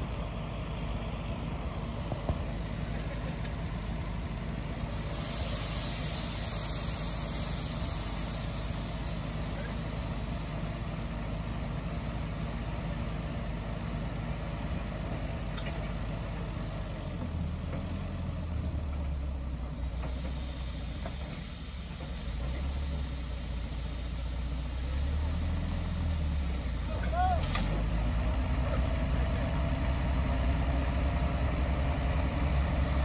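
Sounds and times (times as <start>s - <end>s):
locomotive engine low rumble: 0.0s - 33.0s.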